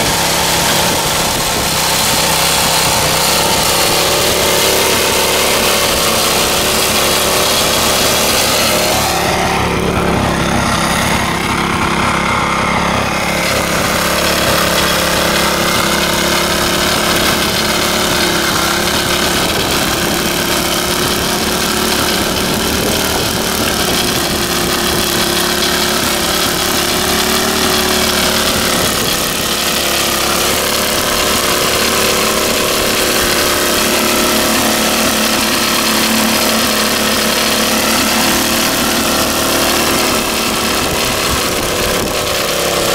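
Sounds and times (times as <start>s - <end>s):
tiller engine running: 0.0s - 42.9s.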